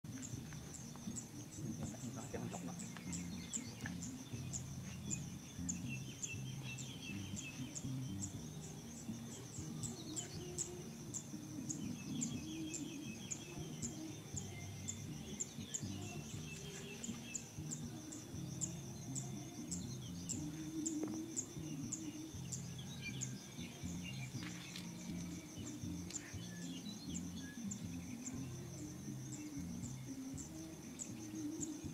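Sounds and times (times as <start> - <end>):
bird chirps: 0.1 - 31.9
low background music: 0.1 - 31.9.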